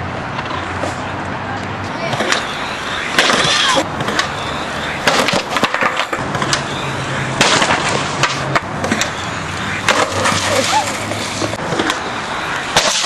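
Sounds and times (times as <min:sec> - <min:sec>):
skateboard wheels rolling on concrete: 0:00.0 - 0:13.0
skateboard clacks: 0:01.6 - 0:13.0.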